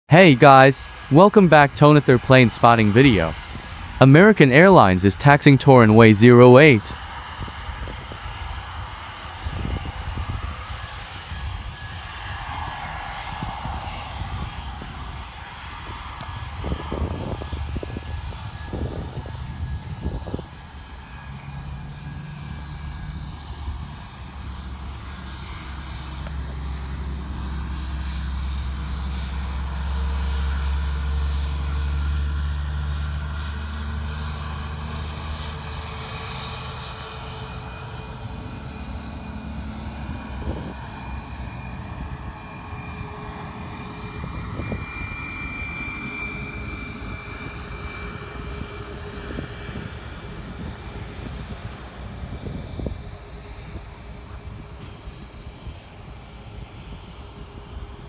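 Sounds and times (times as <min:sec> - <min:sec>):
jet engine whine: 0:00.1 - 0:58.0
jet engines rumbling: 0:00.1 - 0:58.0.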